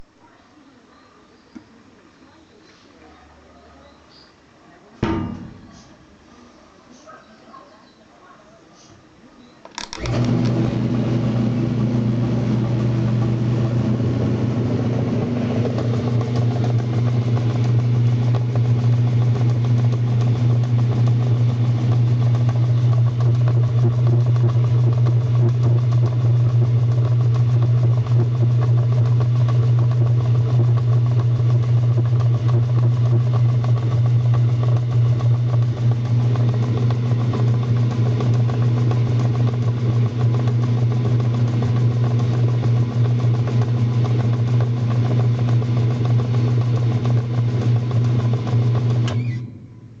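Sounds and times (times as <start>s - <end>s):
washing machine motor humming: 5.0s - 6.2s, 9.8s - 50.0s.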